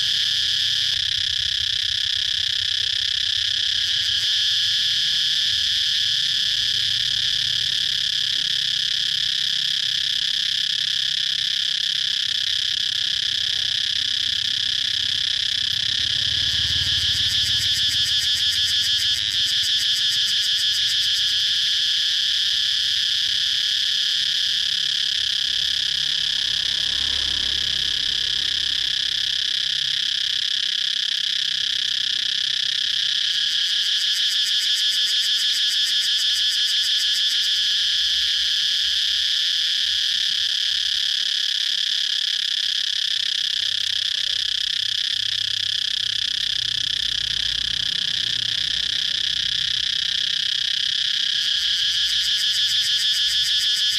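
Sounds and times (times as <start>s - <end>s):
cicadas buzzing: 0.0s - 53.9s.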